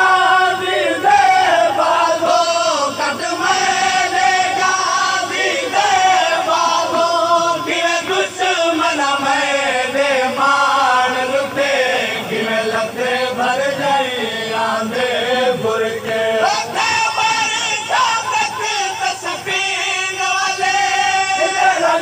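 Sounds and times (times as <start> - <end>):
men chanting together: 0.0 - 22.0.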